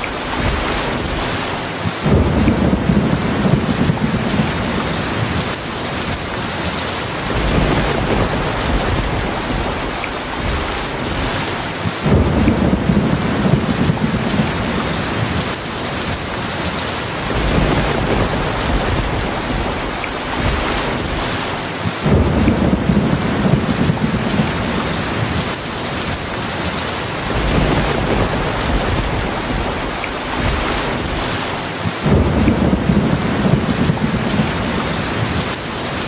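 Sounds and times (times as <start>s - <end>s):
heavy rain: 0.0s - 36.0s
low rolling thunder: 0.0s - 36.0s.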